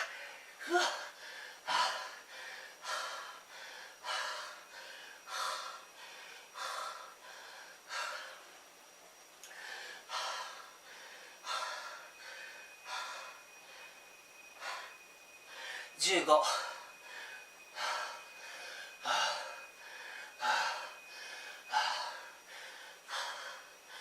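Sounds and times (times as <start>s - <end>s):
man breathing hard: 0.0s - 8.6s, 9.4s - 24.0s.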